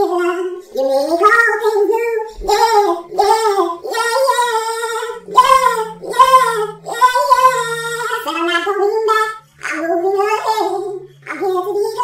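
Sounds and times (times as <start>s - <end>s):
high squeaky pitched-up singing voice: 0.3s - 12.0s.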